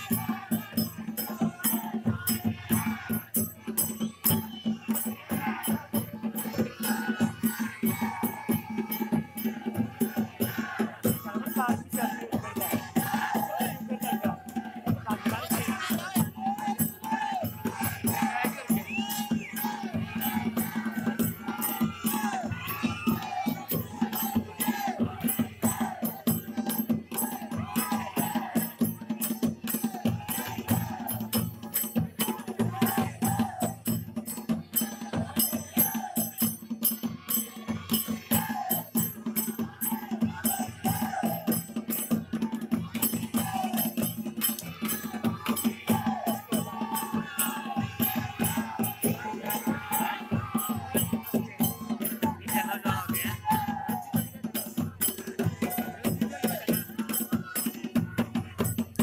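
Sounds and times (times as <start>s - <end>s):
jingling percussion: 0.0s - 59.0s
rapid drumming: 0.0s - 59.0s.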